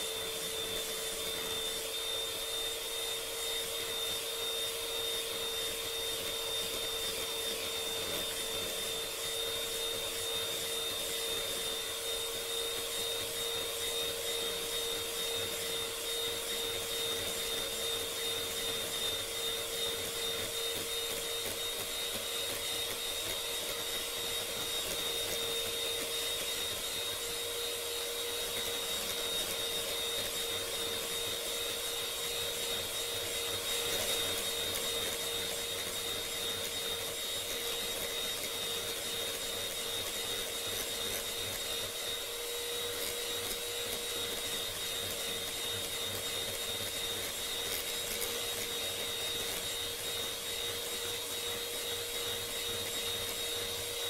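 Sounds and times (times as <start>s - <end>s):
electric hand mixer whining: 0.0s - 54.0s.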